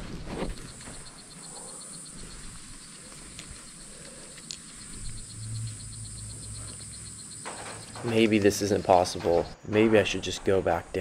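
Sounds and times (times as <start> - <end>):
high insect buzz: 0.1 - 9.6
fast chirps: 0.4 - 10.4.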